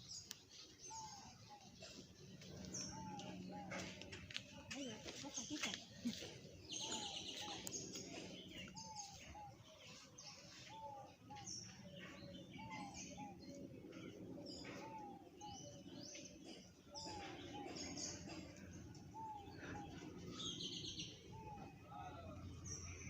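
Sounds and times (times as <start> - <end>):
birds calling faintly: 0.0 - 23.0.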